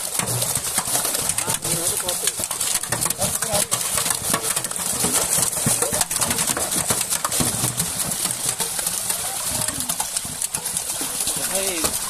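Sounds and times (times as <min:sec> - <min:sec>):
fish thrashing and splashing: 0:00.0 - 0:12.0.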